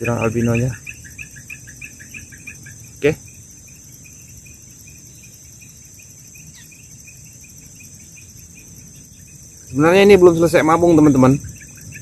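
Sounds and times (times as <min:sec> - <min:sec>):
fast pulsing insect chirp: 0:00.0 - 0:12.0
insects shrilling: 0:00.0 - 0:12.0.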